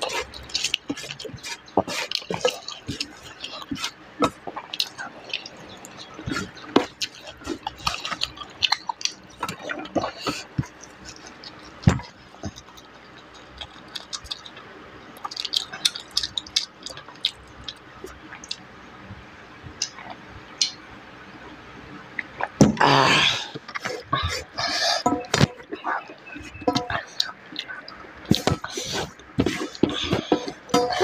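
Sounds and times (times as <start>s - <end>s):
wet chewing and smacking: 0.0s - 18.7s, 19.7s - 20.8s, 23.6s - 31.0s.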